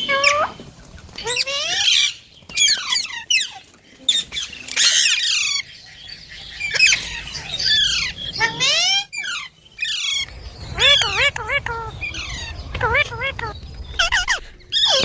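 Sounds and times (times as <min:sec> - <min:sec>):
parakeets squawking: 0:00.0 - 0:00.6, 0:01.2 - 0:15.0.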